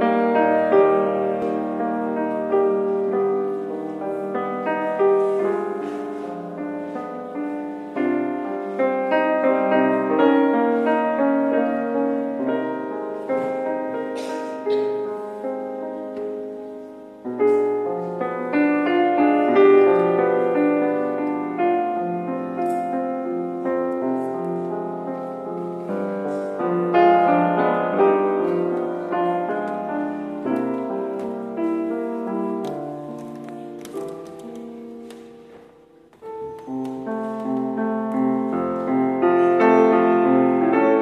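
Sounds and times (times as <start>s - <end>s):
slow lyrical grand piano: 0.0s - 41.0s.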